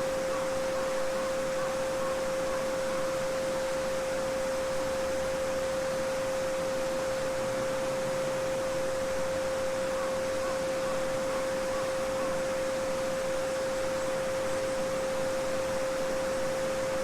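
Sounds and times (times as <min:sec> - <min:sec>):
steady sine tone: 0:00.0 - 0:17.0.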